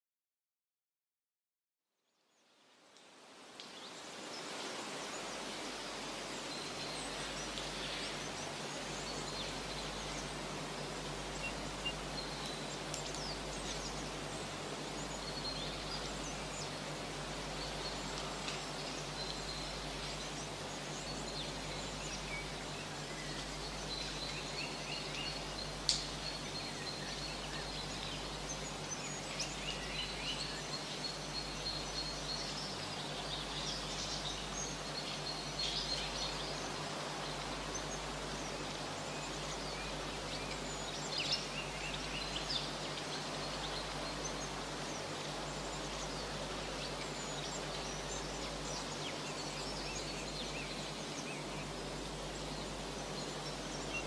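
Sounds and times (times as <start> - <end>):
steady outdoor background noise: 2.4 - 54.0.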